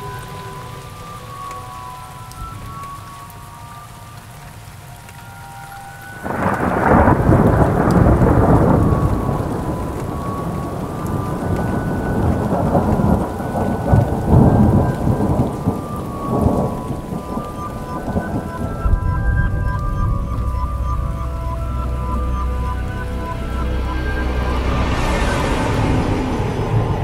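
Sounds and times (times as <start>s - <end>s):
steady rain: 0.0s - 27.0s
thunder rumbling: 5.2s - 27.0s.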